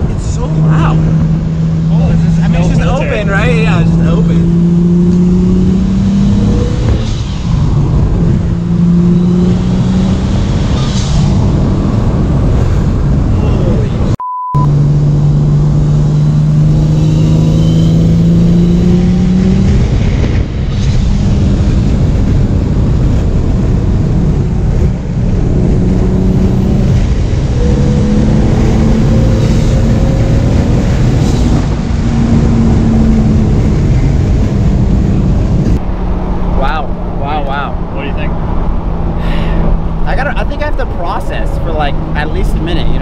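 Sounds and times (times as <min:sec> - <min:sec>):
turbo car engine accelerating: 0:00.0 - 0:43.0.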